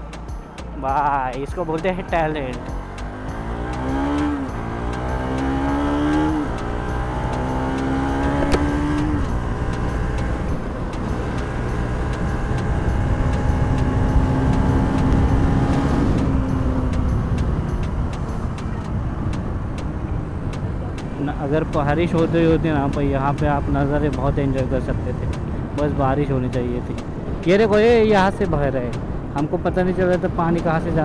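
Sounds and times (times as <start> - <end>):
steady rushing noise: 0.9 - 31.0
motorcycle engine running: 2.4 - 28.9.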